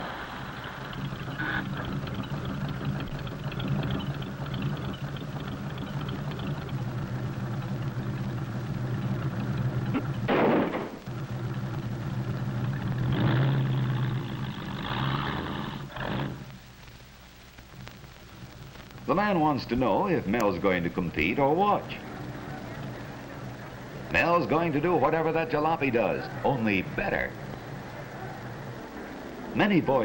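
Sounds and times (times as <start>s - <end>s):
car engines humming: 0.0s - 30.0s.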